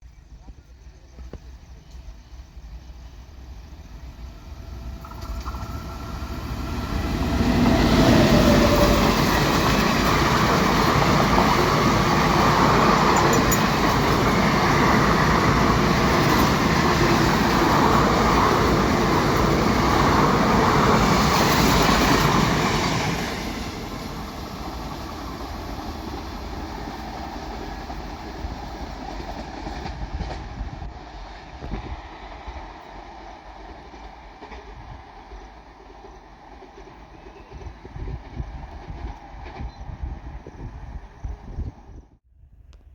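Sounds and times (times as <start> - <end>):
train passing with wheel clatter: 0.4 - 42.1.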